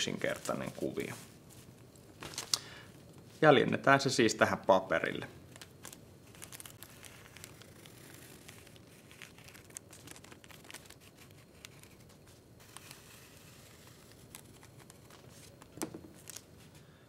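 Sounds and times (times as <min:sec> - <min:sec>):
paper rustling: 0:00.0 - 0:02.6, 0:05.4 - 0:16.9.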